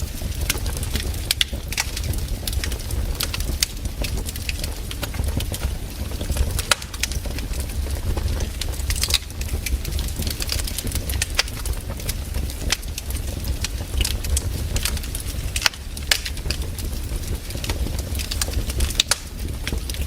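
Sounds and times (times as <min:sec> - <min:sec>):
campfire crackling and popping: 0:00.0 - 0:20.0
low steady rumble: 0:00.0 - 0:20.0.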